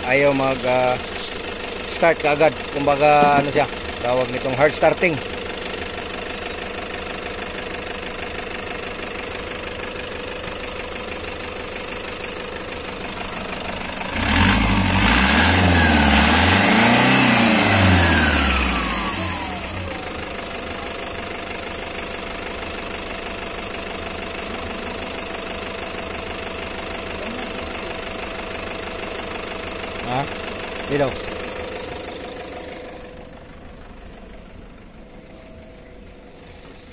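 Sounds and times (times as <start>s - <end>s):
van engine idling and revving: 0.0s - 36.9s.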